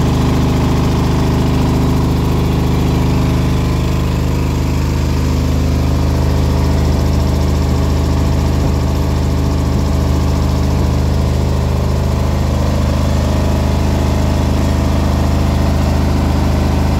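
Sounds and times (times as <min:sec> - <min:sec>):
air compressor running: 0:00.0 - 0:16.9.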